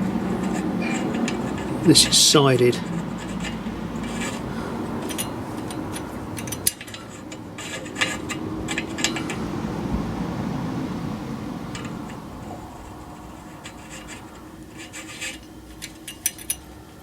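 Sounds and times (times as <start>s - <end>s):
metallic clicks and scrapes: 0.0s - 9.5s, 11.7s - 17.0s
low background hum: 0.0s - 17.0s.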